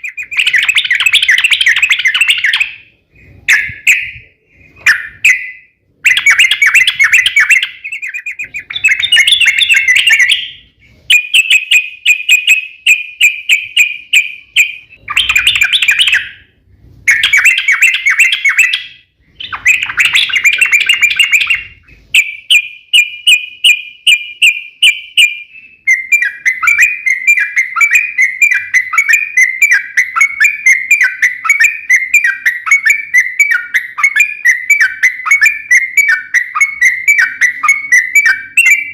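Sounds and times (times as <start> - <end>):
bulbul singing rapid chattering: 0.0 - 16.5, 17.1 - 38.9.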